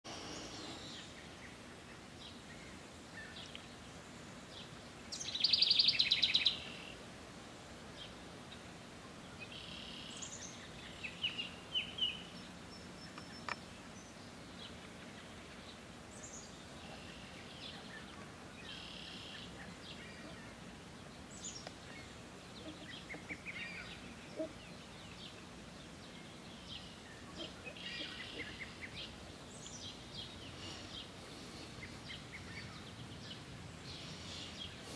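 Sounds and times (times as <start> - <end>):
faint bird song: 0.1 - 34.9.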